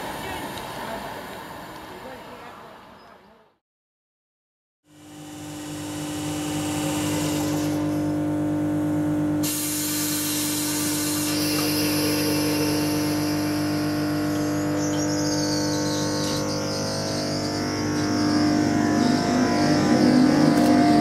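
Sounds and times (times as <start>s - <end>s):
electric train whine: 0.0s - 3.0s, 4.9s - 21.0s.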